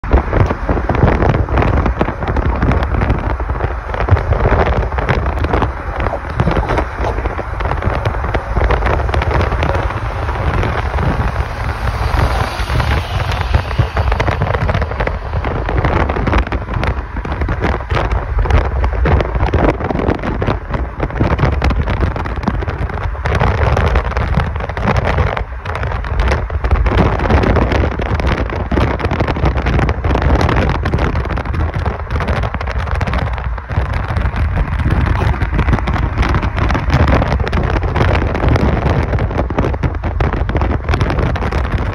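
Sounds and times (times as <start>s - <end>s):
road noise rumble: 0.0s - 41.9s
wind buffeting microphone: 0.0s - 41.9s.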